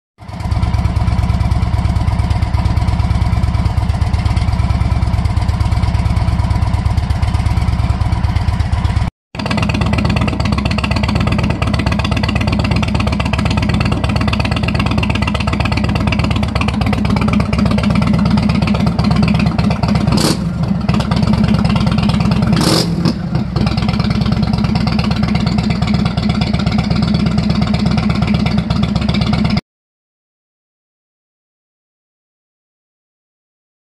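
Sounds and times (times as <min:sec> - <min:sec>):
motorcycle engine running: 0:00.2 - 0:29.6.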